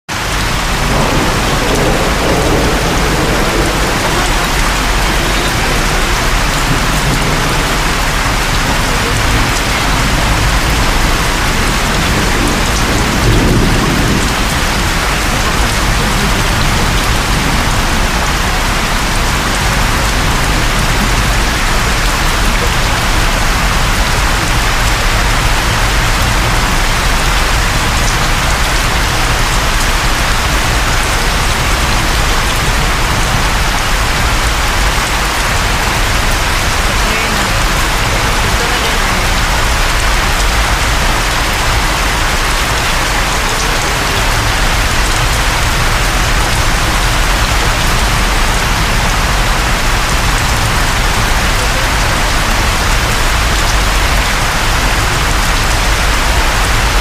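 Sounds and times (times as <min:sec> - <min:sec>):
deep rumble: 0:00.1 - 0:57.0
heavy rain on car roof: 0:00.1 - 0:57.0.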